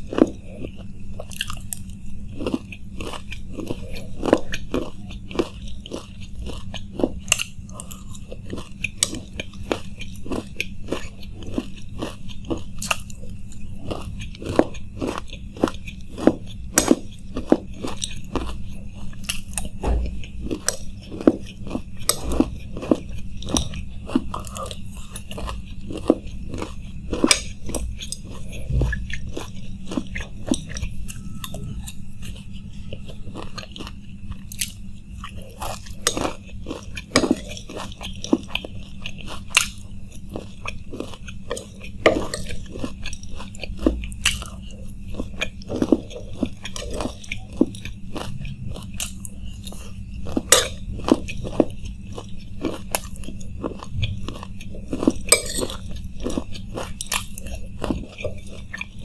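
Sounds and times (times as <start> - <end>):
crunching and chewing snack: 0.0 - 59.0.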